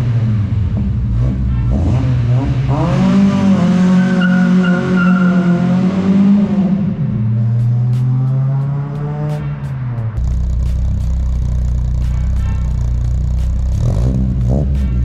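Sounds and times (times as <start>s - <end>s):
car engine revving against limiter: 0.0s - 15.0s.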